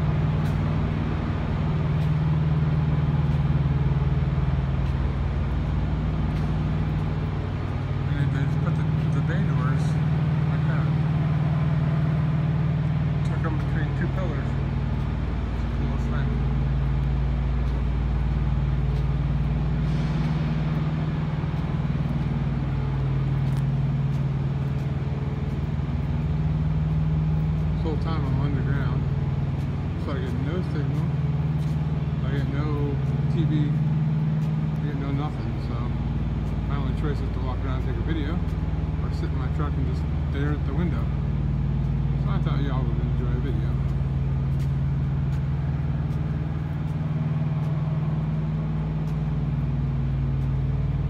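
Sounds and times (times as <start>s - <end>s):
truck diesel engine droning: 0.0s - 51.0s.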